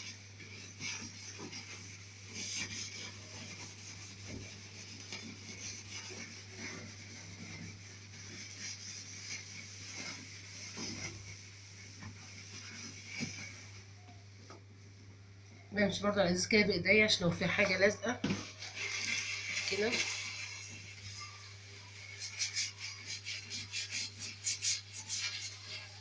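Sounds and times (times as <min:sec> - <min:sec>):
steel wool scrubbing metal: 0:00.0 - 0:13.8, 0:18.6 - 0:26.0.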